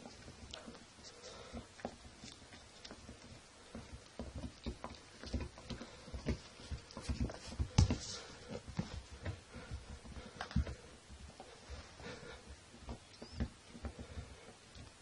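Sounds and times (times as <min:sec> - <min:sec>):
soft thumps and patters: 0:00.0 - 0:15.0.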